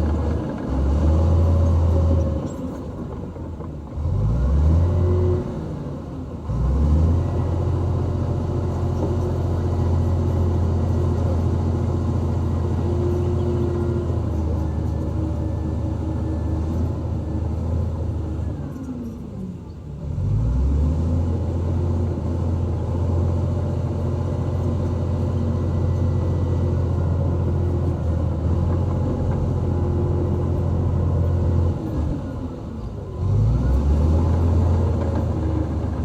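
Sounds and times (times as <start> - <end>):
heavy diesel engine under load: 0.0 - 36.0.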